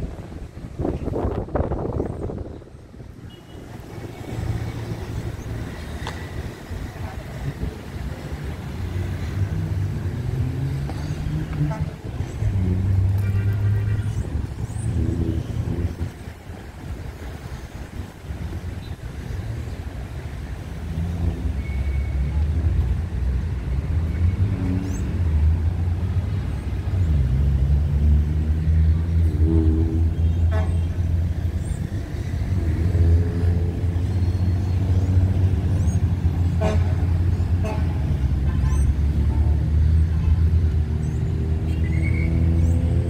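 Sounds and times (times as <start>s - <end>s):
vehicle engine drone: 0.0s - 43.0s.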